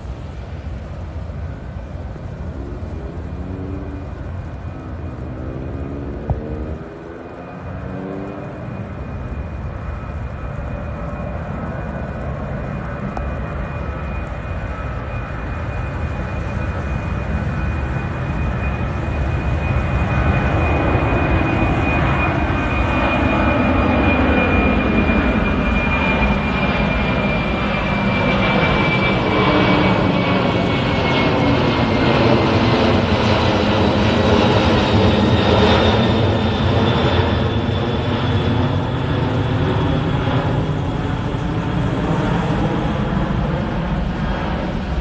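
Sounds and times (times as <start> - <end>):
high engine whine: 0.0 - 45.0
jet engine roar: 0.0 - 45.0.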